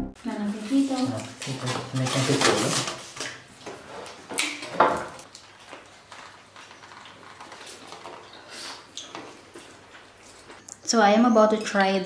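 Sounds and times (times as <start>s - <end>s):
plastic containers crinkling: 0.5s - 10.6s.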